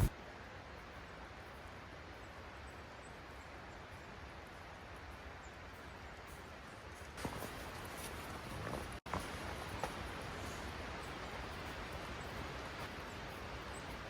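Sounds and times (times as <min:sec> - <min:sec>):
even outdoor hiss: 0:00.0 - 0:14.0.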